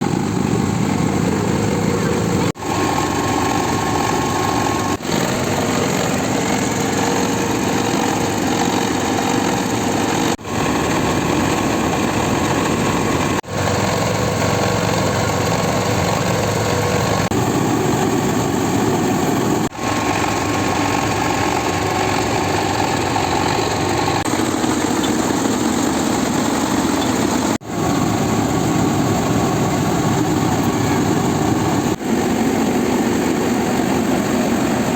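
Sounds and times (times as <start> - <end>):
milling machine engine running: 0.0 - 34.9.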